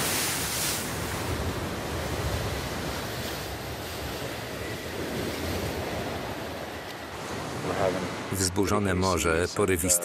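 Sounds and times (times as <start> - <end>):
rough sea washing over a hull: 0.0 - 8.6
wind: 0.0 - 10.0.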